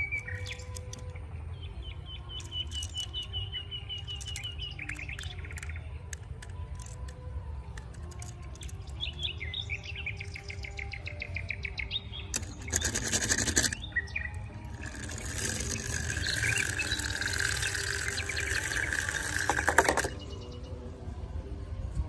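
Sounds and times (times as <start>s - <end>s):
bird chirping: 0.0s - 6.1s, 8.2s - 20.8s.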